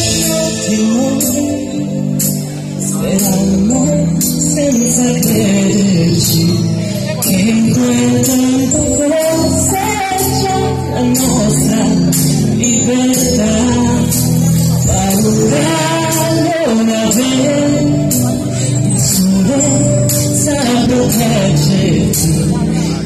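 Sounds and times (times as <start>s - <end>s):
band music with steady beat: 0.0s - 23.0s
person singing: 0.0s - 23.0s.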